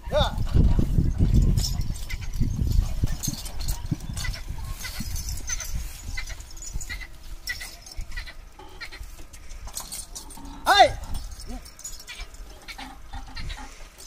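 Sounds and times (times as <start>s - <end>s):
cart rumbling and hooves thumping: 0.0s - 14.0s.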